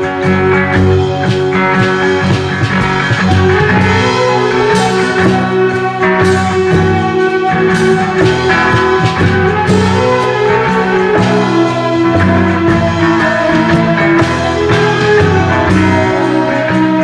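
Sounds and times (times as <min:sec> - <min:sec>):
lo-fi acoustic rock guitar music: 0:00.0 - 0:17.0.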